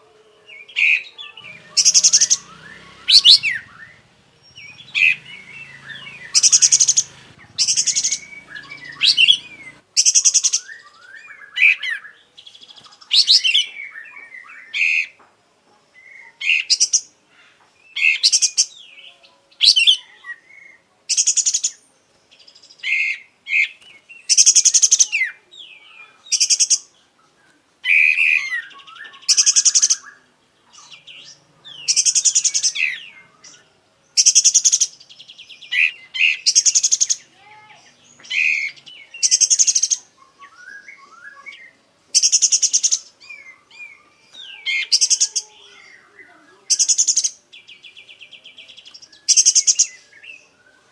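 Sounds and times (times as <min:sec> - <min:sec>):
bulbul singing trills: 0:00.0 - 0:15.2, 0:15.9 - 0:26.9, 0:27.8 - 0:50.9.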